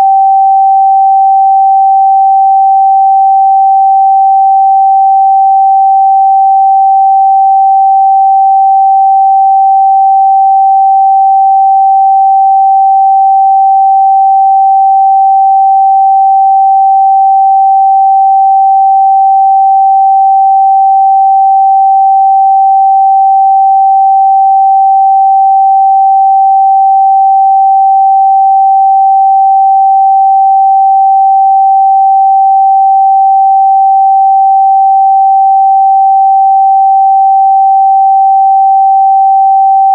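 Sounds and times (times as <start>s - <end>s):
pure sine test tone: 0.0s - 39.9s.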